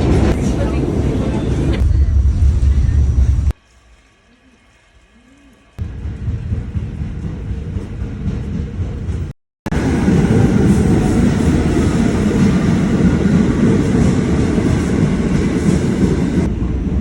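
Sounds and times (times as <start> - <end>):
subway train rumbling: 0.0 - 3.6, 4.2 - 17.0.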